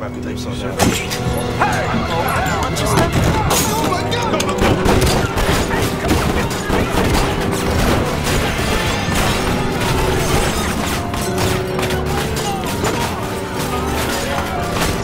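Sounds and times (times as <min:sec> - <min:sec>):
film music: 0:00.0 - 0:15.0
sharp hits and crashes: 0:00.8 - 0:15.0.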